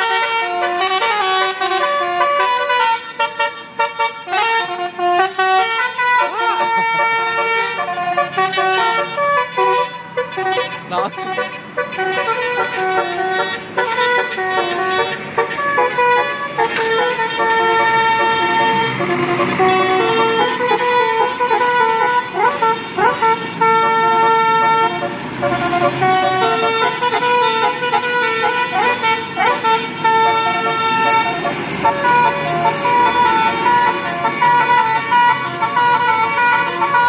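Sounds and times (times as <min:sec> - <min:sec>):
vehicle horns honking: 0:00.0 - 0:37.0.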